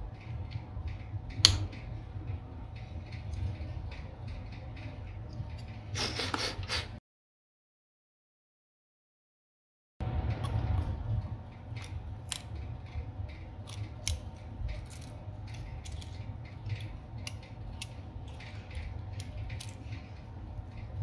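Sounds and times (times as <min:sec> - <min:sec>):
steady low hum: 0:00.0 - 0:07.0, 0:10.0 - 0:21.0.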